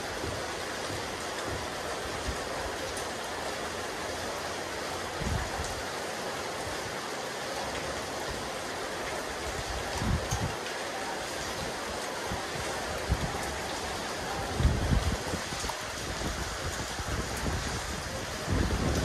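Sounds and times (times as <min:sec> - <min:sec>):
rain falling on a rooftop: 0:00.0 - 0:19.0.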